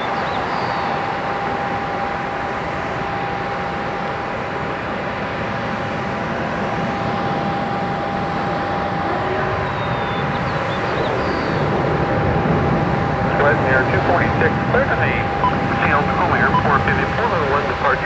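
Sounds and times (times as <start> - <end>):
high whine: 0.0 - 18.0
jet engines roaring: 0.0 - 18.0.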